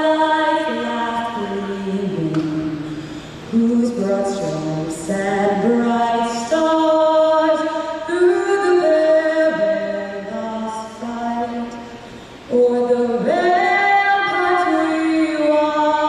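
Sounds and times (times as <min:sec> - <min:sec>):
woman singing a cappella: 0:00.0 - 0:16.0.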